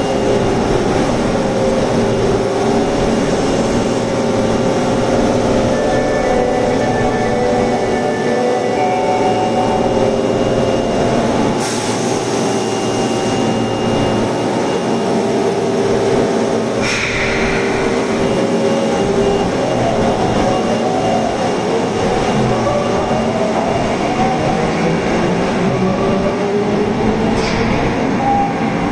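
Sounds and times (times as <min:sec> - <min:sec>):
subway train running: 0:00.0 - 0:28.9.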